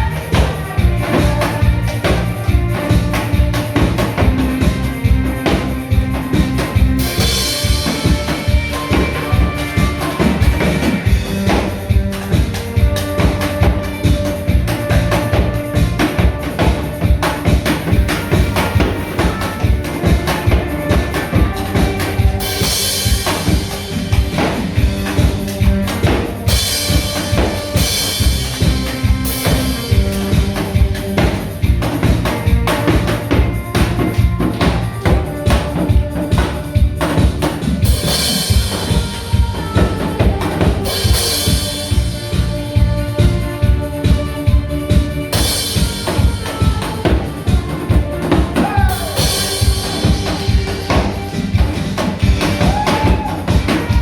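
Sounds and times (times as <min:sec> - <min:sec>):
drum kit beat: 0:00.0 - 0:54.0
upbeat instrumental music: 0:00.0 - 0:54.0.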